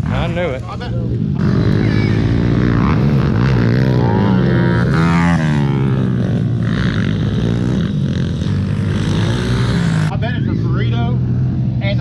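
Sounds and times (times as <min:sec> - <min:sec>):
small motorcycle engines revving: 0:00.0 - 0:12.0.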